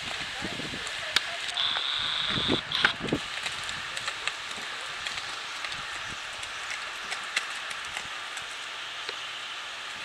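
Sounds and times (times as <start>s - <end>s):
hooves clopping on gravel: 0.0s - 9.2s.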